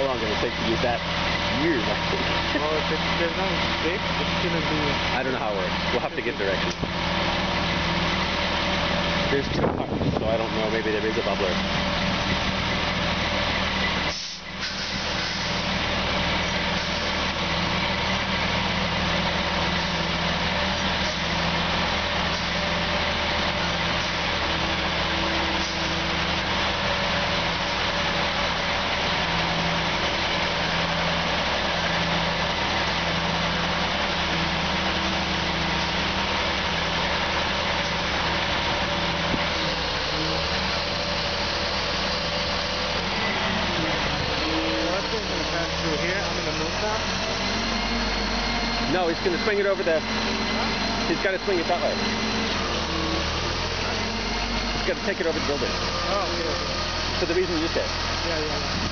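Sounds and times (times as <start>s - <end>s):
heavy diesel engines idling: 0.0s - 58.9s.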